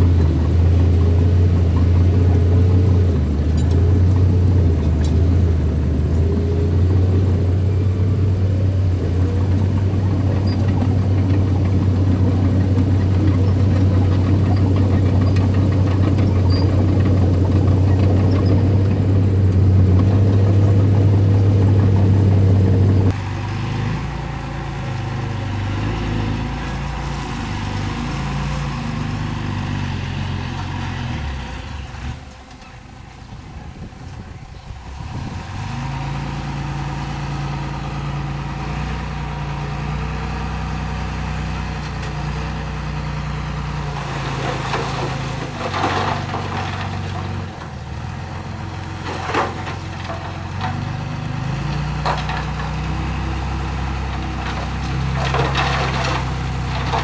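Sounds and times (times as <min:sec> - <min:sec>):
engine pitch rising and falling: 0:00.0 - 0:46.4
diesel engine humming: 0:00.0 - 0:57.0.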